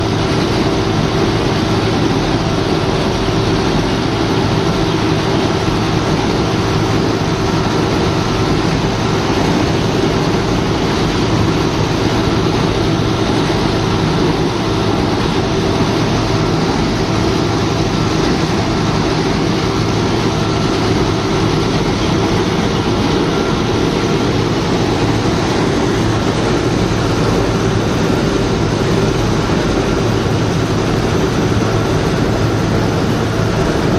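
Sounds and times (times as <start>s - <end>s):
excavator machinery drone: 0.0s - 33.9s
faint steady whine: 0.0s - 33.9s.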